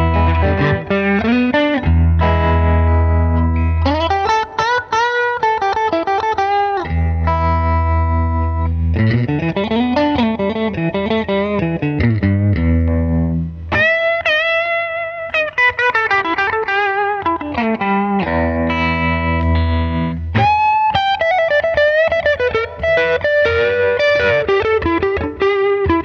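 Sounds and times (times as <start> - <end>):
electric guitar playing: 0.0 - 26.0.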